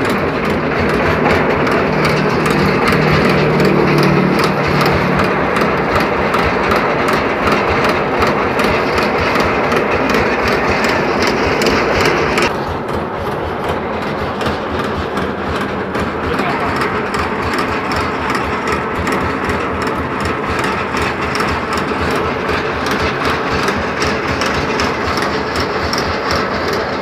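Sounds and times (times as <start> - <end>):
corn sheller engine droning: 0.0 - 27.0
mechanical rattle: 0.0 - 27.0.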